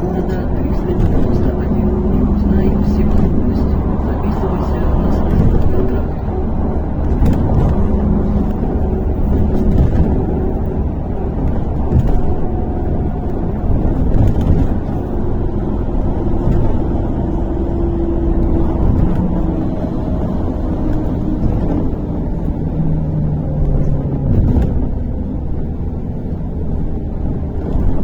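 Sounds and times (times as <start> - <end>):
bus engine and road rumble: 0.0 - 28.0
faint drivetrain whine: 0.0 - 28.0.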